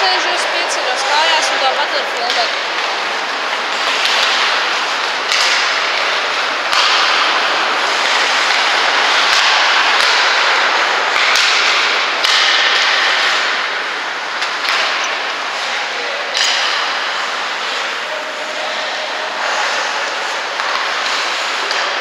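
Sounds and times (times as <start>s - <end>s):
hockey sticks and puck clacking: 0.0s - 22.0s
skates scraping on ice: 0.0s - 22.0s.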